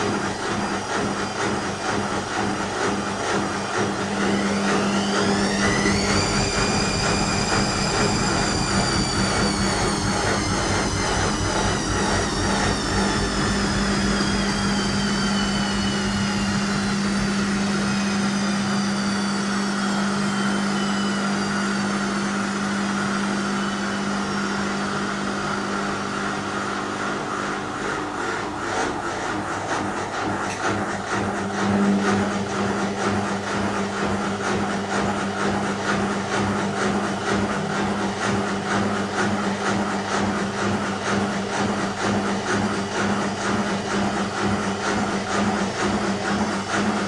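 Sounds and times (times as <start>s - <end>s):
steady hum: 0.0s - 47.0s
washing machine drum motor whining: 0.0s - 47.0s.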